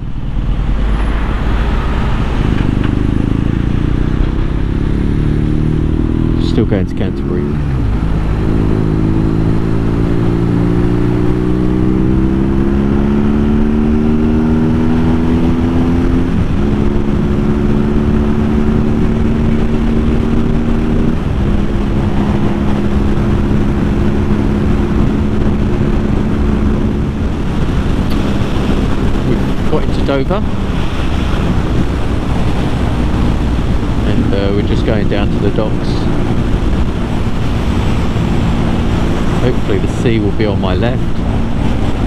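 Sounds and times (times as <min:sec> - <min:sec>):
motorcycle engine accelerating: 0:00.0 - 0:42.0
wind and road noise: 0:00.0 - 0:42.0.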